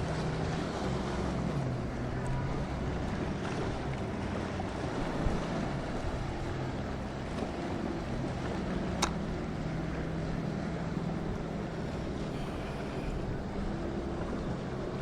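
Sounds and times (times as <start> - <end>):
boat engines running: 0.0 - 15.0
waves: 0.0 - 15.0.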